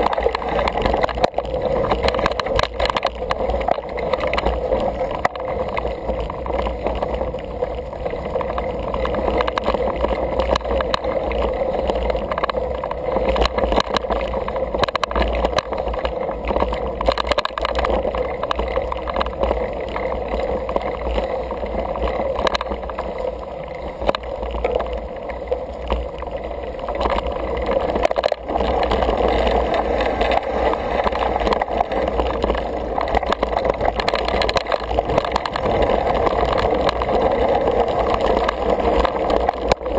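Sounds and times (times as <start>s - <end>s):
bike rattles and clicks: 0.0s - 39.9s
bike tyres rumbling on dirt: 0.0s - 39.9s.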